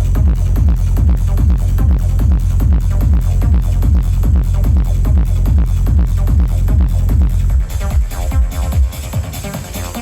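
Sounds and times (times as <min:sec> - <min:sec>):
deep kick drum: 0:00.0 - 0:10.0
techno music: 0:00.0 - 0:10.0.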